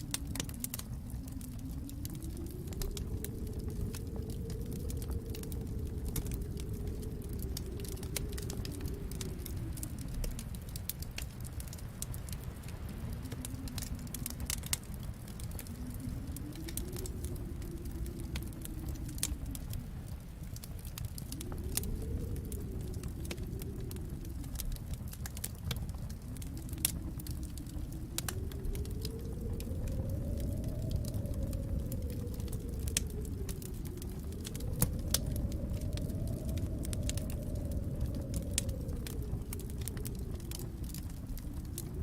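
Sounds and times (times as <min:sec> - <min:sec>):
snowstorm wind rumbling: 0:00.0 - 0:42.0
wood fire crackling and popping: 0:00.0 - 0:42.0.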